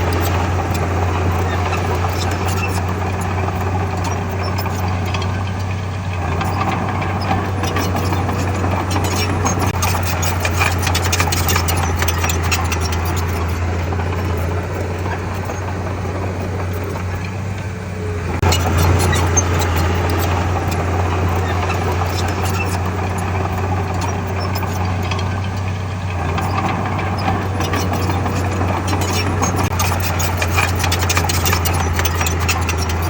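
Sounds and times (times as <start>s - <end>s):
heavy machinery diesel engine: 0.0s - 33.0s
rattling and clanking: 0.0s - 33.0s.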